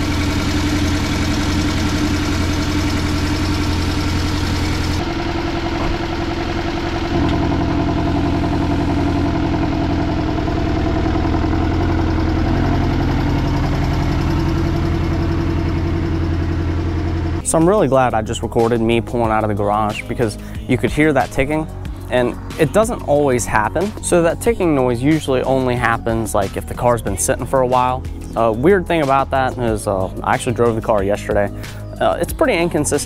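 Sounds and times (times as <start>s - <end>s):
car engine idling: 0.0s - 33.0s
rhythmic engine ticking: 0.0s - 33.0s.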